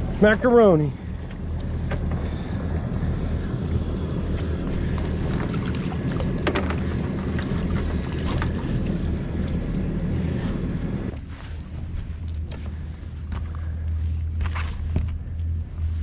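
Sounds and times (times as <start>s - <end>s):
outboard engines idling: 0.0s - 16.0s.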